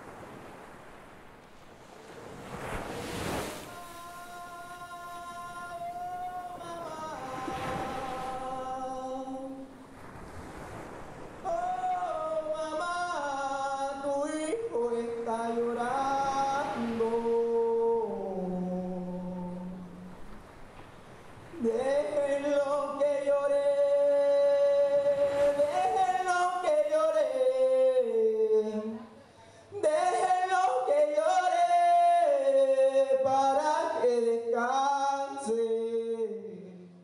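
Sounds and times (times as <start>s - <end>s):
person singing unaccompanied: 3.6s - 9.8s, 11.4s - 20.2s, 21.5s - 37.0s.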